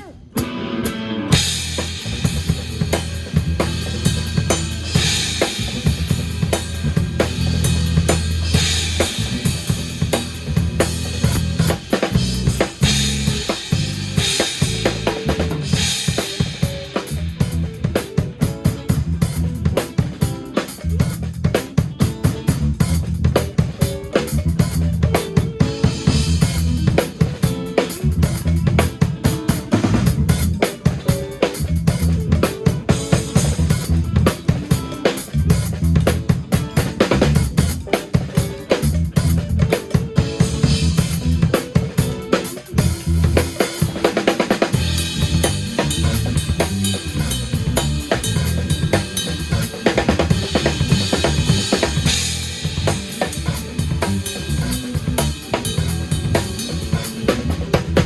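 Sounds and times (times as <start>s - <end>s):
drum kit: 0.0s - 58.0s
funk band playing: 0.0s - 58.0s
bass line: 1.2s - 18.0s, 18.9s - 19.8s, 20.8s - 21.6s, 22.4s - 25.2s, 25.8s - 27.3s, 27.9s - 29.0s, 29.7s - 30.6s, 31.6s - 34.7s, 35.3s - 37.9s, 38.7s - 41.6s, 42.6s - 43.7s, 44.6s - 58.0s.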